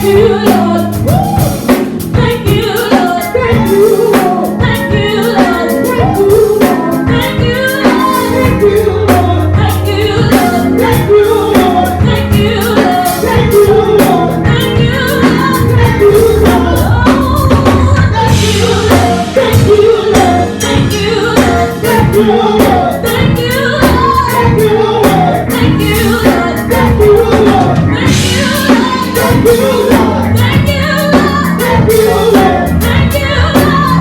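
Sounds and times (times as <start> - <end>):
bass: 0.0 - 34.0
drum kit: 0.0 - 34.0
person singing: 0.0 - 34.0.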